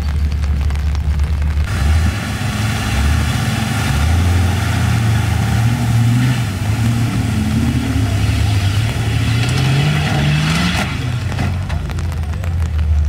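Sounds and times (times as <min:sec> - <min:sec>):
off-road vehicle engine revving: 0:01.6 - 0:13.0.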